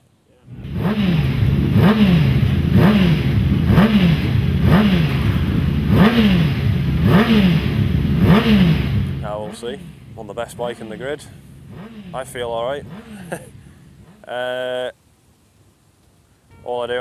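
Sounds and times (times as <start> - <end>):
motorcycle engine revving: 0.5 - 14.4.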